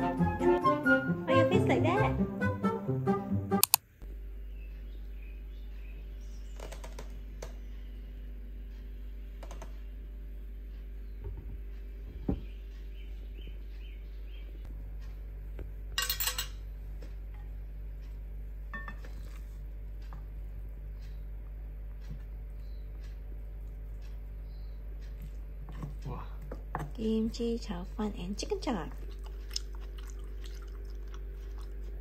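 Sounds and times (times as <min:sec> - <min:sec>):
steady low hum: 0:03.0 - 0:32.0.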